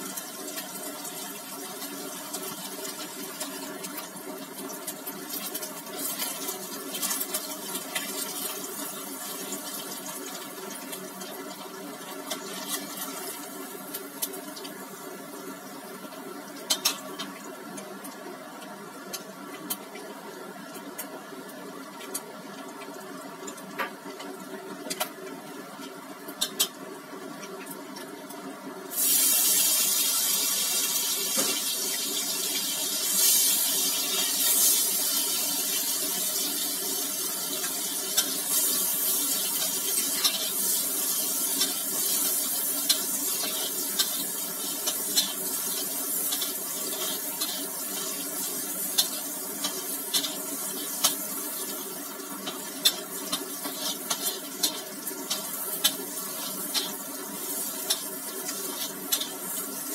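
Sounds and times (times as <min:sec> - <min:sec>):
food sizzling in hot oil: 0:00.0 - 0:18.4, 0:22.7 - 0:59.9.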